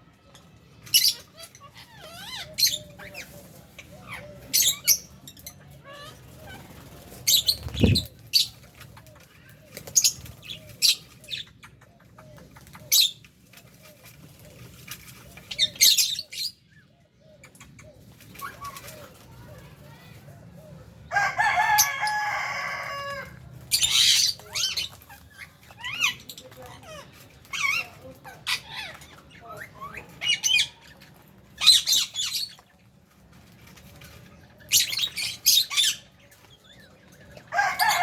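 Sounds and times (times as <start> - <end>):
birds chirping and squawking: 0.0 - 38.0.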